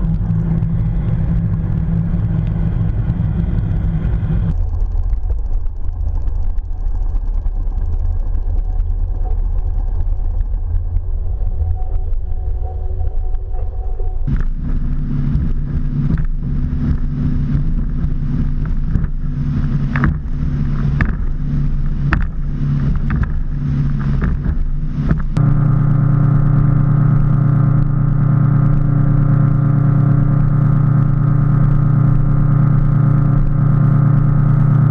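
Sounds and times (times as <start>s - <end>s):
motorboat engine running: 0.0s - 34.9s
muffled underwater rumble: 0.0s - 34.9s.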